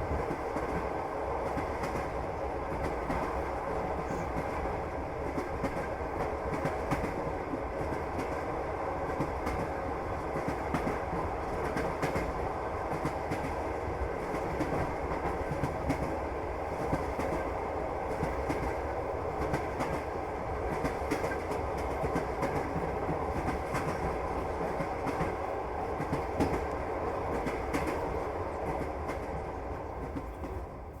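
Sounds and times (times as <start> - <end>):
train rumbling along track: 0.0 - 31.0.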